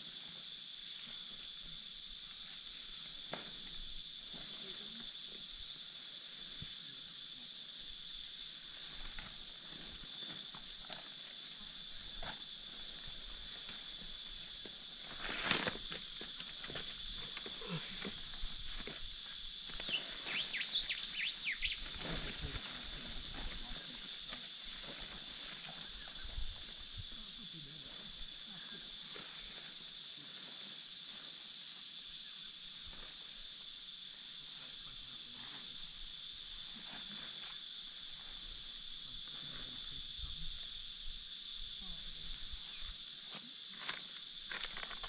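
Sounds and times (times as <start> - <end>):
insect chorus droning: 0.0 - 45.0.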